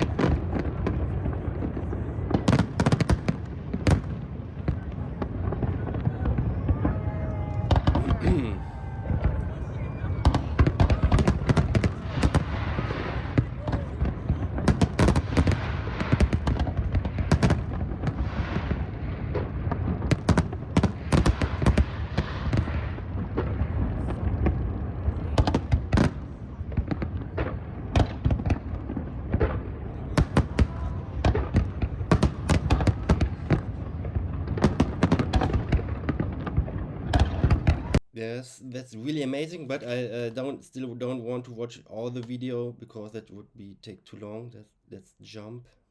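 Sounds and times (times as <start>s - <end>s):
fireworks cracks and booms: 0.0s - 38.0s.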